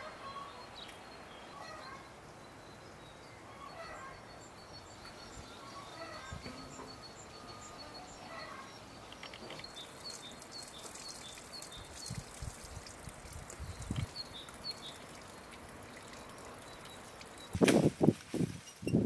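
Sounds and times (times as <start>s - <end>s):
small birds singing: 0.0s - 17.6s.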